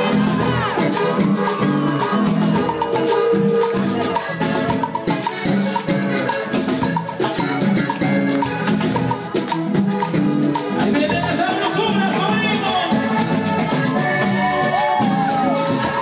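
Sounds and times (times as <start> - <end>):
bass: 0.0 - 16.0
button accordion: 0.0 - 16.0.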